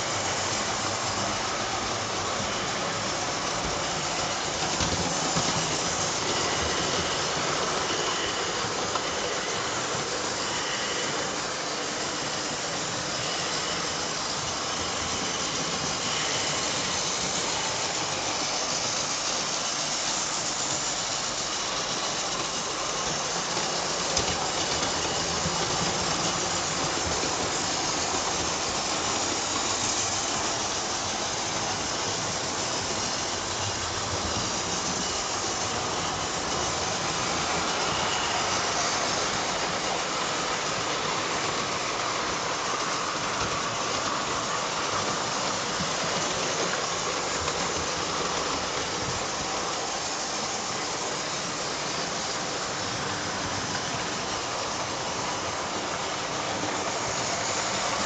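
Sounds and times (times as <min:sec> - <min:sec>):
model trains whirring on rails: 0:00.0 - 0:58.0.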